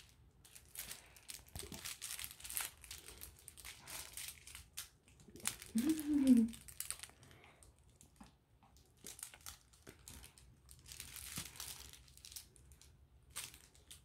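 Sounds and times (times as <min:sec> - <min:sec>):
plush dog toy crinkling: 0:00.0 - 0:14.0.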